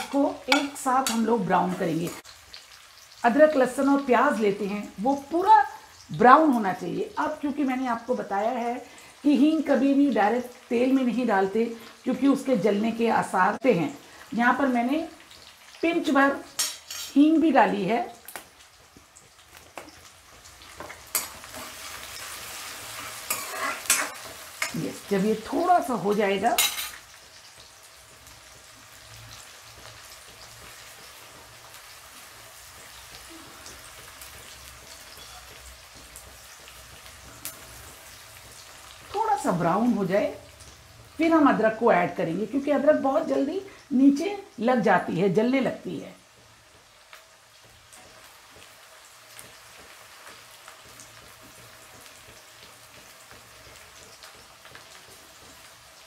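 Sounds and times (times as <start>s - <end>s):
garlic and onion sizzling in oil: 0.0s - 56.0s.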